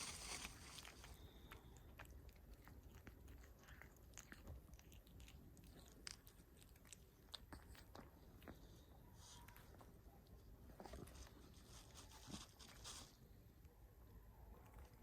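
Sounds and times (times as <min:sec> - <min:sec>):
cat chewing food: 0:00.0 - 0:13.5.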